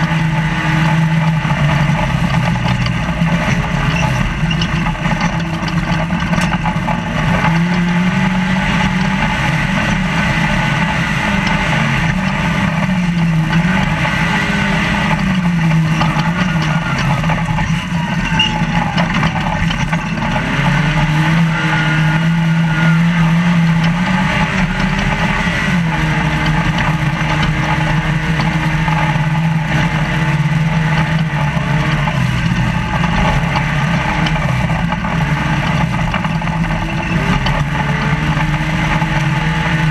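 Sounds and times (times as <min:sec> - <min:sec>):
road and wind noise: 0:00.0 - 0:39.9
truck engine revving: 0:00.0 - 0:39.9.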